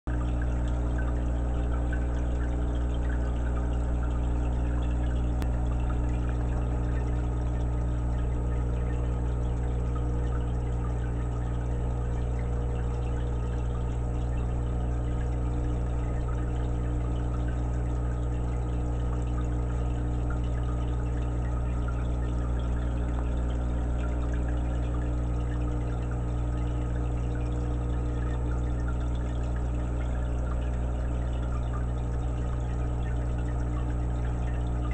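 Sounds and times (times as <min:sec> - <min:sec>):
aquarium air stone bubbling: 0:00.1 - 0:34.9
steady low hum: 0:00.1 - 0:34.9.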